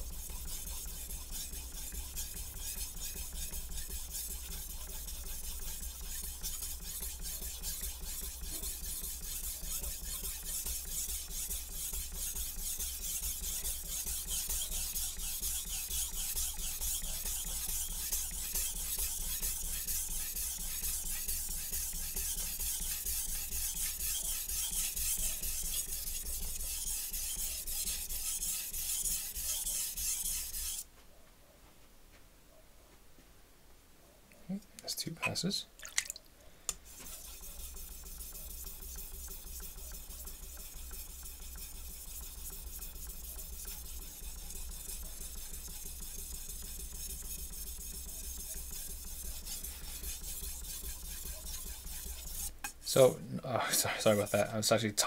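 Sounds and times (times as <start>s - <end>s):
knife scraping on whetstone: 0.0s - 30.8s, 36.9s - 42.2s, 42.8s - 53.0s.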